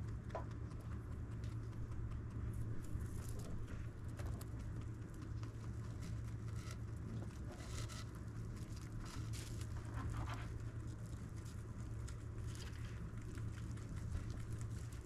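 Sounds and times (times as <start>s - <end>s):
low hum: 0.0s - 15.0s
rabbit chewing hay: 0.0s - 15.0s.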